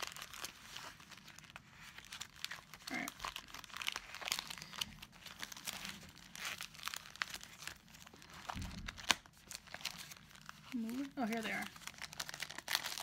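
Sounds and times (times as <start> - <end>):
paper and plastic sheets rustling: 0.0 - 13.0.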